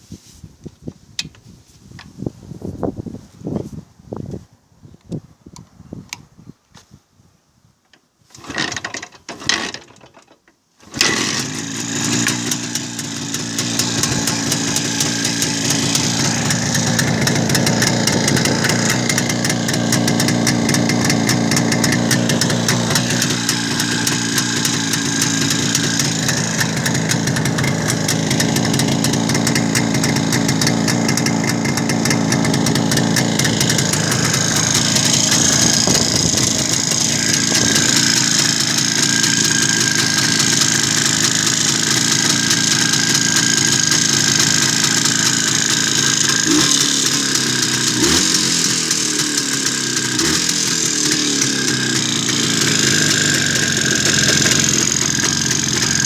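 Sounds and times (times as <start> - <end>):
motorcycle engine idling with knock: 11.0 - 56.0.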